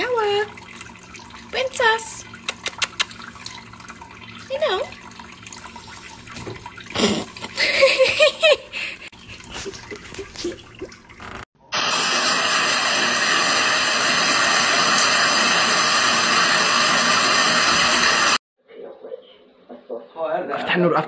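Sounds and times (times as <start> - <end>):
bathroom tap running: 0.0 - 18.4.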